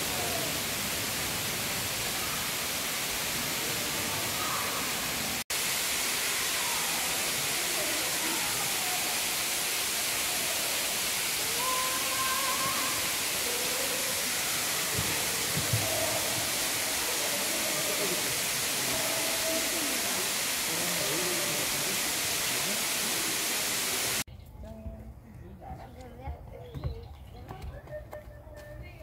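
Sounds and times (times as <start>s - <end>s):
steady loud hiss: 0.0s - 24.3s.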